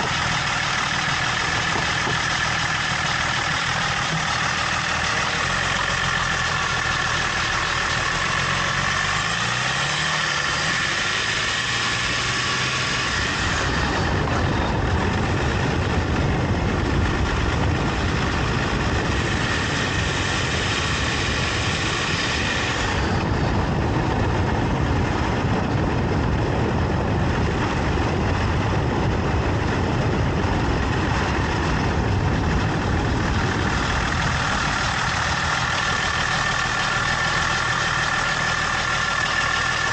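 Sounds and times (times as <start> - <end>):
car engine revving: 0.0 - 39.9
road noise rumble: 0.0 - 39.9.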